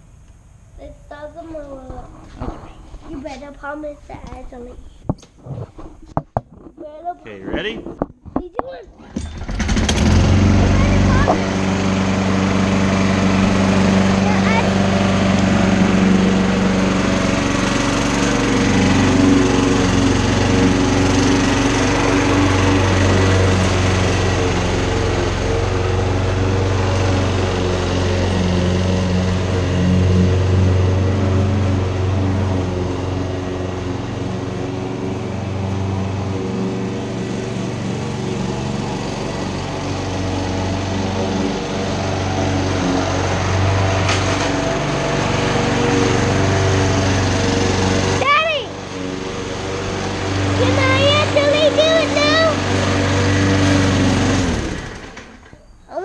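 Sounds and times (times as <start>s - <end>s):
lawn mower engine running: 6.1s - 56.0s.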